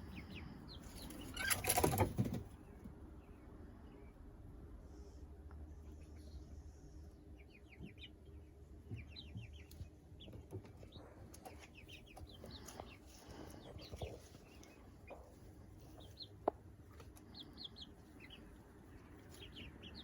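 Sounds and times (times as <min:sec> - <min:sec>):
chicks chirping and peeping: 0:00.0 - 0:20.0
steady low hum: 0:02.6 - 0:20.0.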